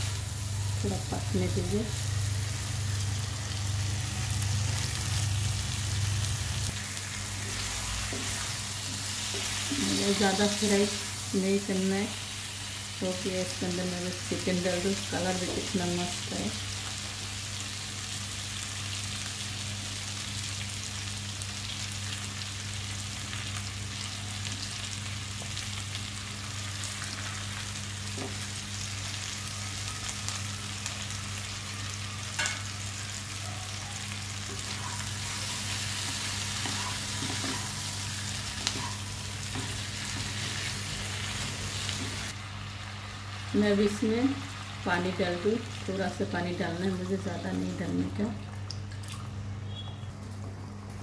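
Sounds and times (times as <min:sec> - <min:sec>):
chicken sizzling in hot oil: 0:00.0 - 0:48.0.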